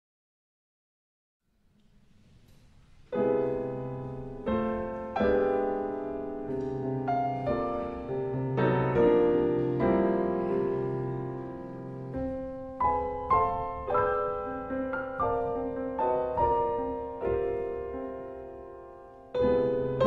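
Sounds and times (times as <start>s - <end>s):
gentle piano music: 2.6s - 20.0s.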